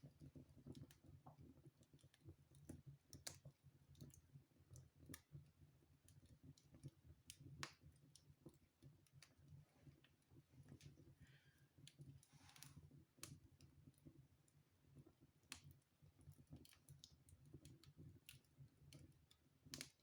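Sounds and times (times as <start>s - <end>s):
wood fire crackling: 0.1s - 20.0s.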